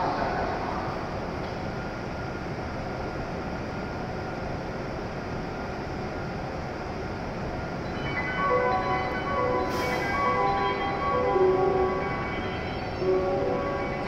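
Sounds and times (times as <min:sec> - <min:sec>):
train onboard equipment running: 0:00.0 - 0:14.0.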